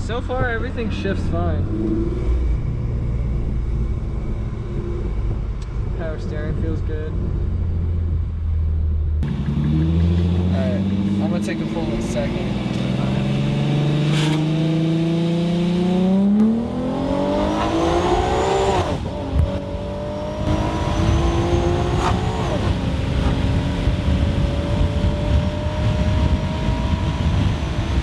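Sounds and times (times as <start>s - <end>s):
high supercharger whine: 0.0s - 28.0s
car engine revving: 0.7s - 28.0s.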